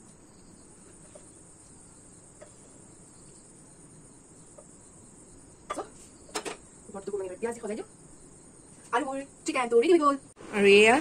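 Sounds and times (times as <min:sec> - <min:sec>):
faint high hiss: 0:00.0 - 0:11.0.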